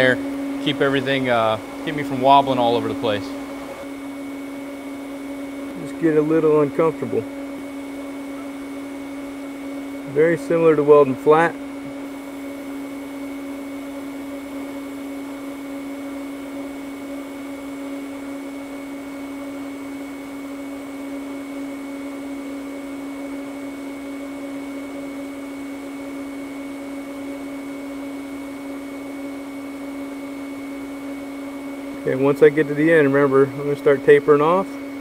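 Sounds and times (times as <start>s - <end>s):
welding arc hissing and humming: 0.0s - 35.0s.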